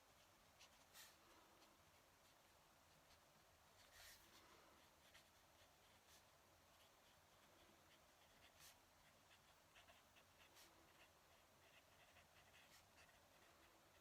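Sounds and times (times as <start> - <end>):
pen nib scratching paper: 0.2 - 14.0.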